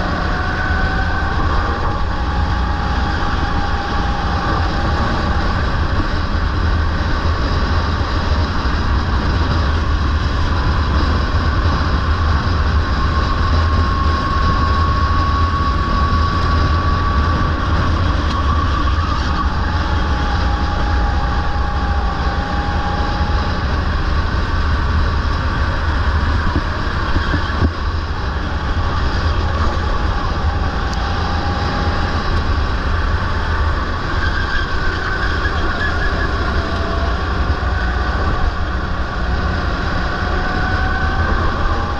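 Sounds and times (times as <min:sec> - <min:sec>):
kart engine running: 0:00.0 - 0:41.9.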